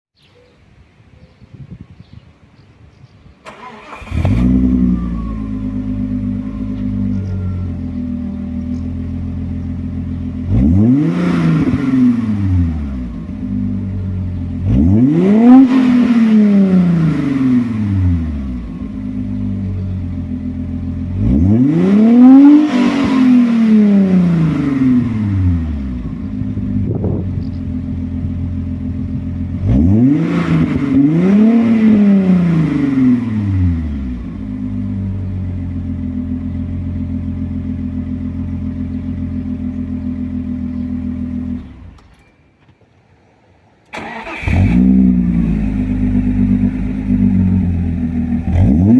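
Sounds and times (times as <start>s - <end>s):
car engine idling and revving: 3.4s - 48.9s.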